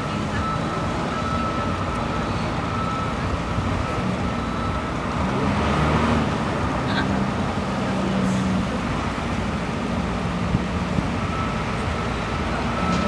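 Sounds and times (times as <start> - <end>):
heavy vehicle engines running: 0.0 - 13.0.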